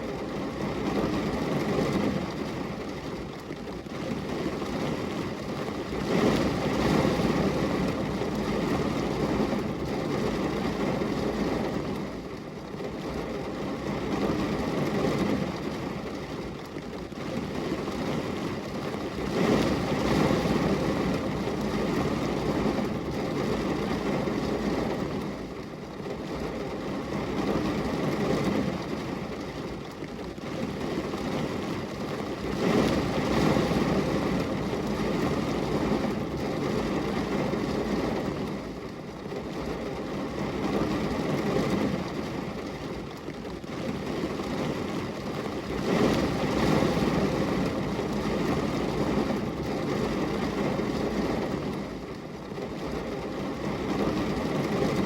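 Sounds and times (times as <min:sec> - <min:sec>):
rain on glass window: 0:00.0 - 0:55.0.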